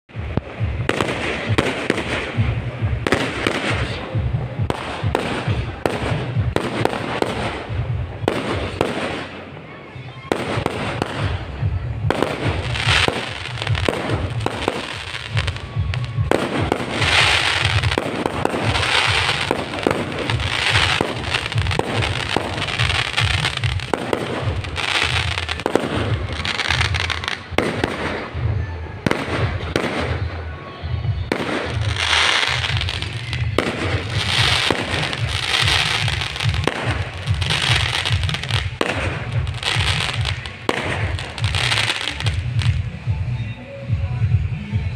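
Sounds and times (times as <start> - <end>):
firecrackers popping: 0.1 - 43.1
music: 0.1 - 44.9.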